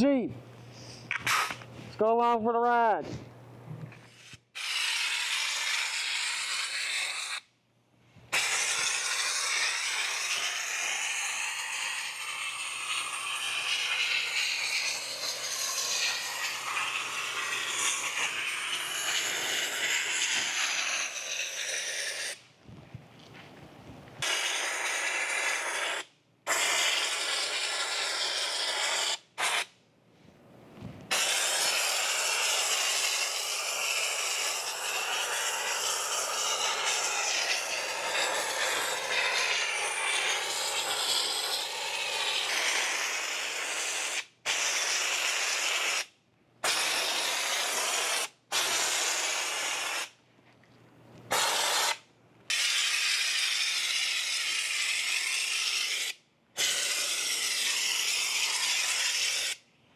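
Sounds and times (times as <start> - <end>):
air spray gun hissing: 0.7 - 1.7, 4.1 - 7.5, 8.3 - 22.4, 24.2 - 29.7, 31.1 - 50.2, 51.3 - 59.6.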